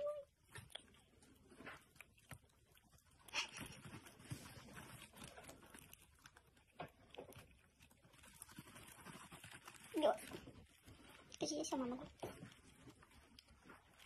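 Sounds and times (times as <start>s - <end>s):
faint clicks and rustles: 0.0s - 14.0s.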